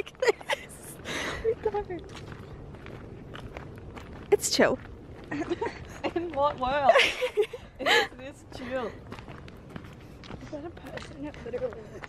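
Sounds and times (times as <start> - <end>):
footsteps: 0.0 - 12.0
low steady background noise: 0.0 - 12.0.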